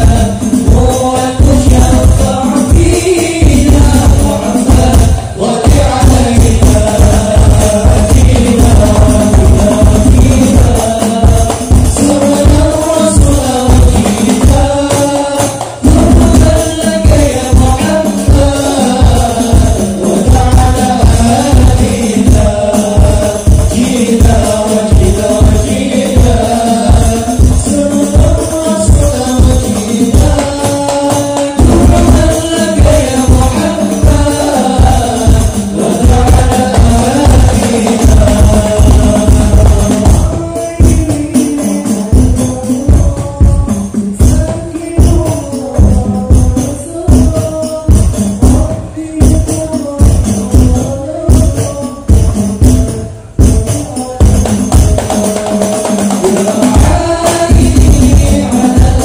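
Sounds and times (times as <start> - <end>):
frame drums beating fast: 0.0 - 59.0
young men singing together: 0.0 - 59.0.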